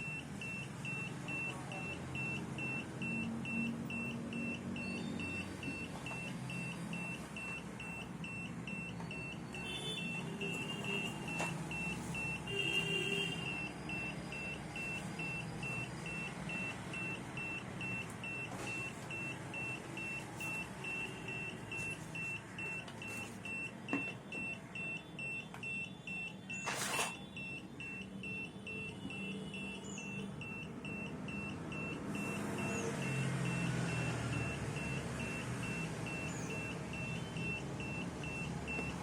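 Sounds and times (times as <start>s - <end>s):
alarm beeping: 0.0s - 39.0s.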